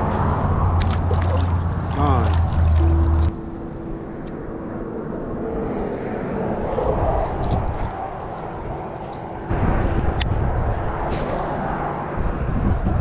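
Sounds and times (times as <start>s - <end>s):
distant traffic drone: 0.0s - 13.0s.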